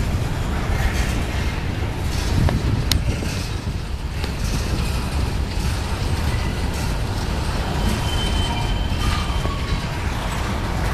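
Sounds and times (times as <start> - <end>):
steel wheels rumbling on track: 0.0 - 10.9.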